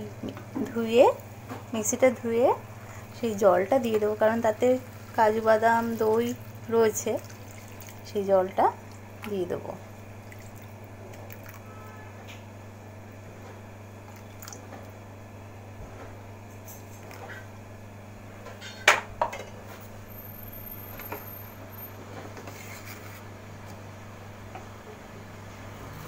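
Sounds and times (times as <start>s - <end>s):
steady low hum: 0.0s - 25.8s.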